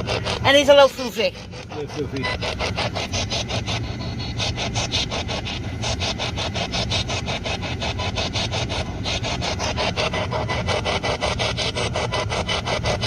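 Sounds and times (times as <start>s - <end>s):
pulsing radio static: 0.0s - 13.0s.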